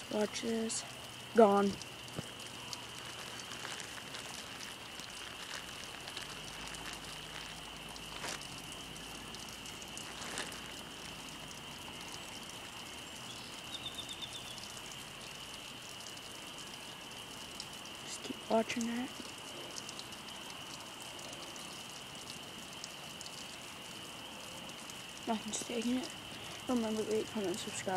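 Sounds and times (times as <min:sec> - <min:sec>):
constant high hiss: 0:00.0 - 0:27.9.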